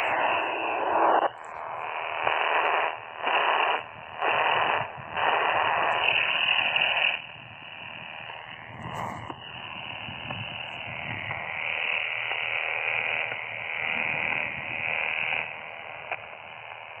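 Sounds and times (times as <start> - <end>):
radio receiver hiss: 0.0 - 17.0.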